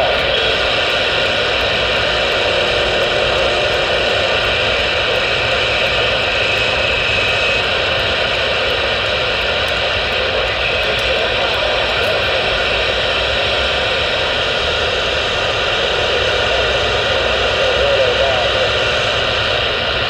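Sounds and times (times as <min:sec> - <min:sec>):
faint steady tones: 0:00.0 - 0:20.0
radio static hiss: 0:00.0 - 0:20.0.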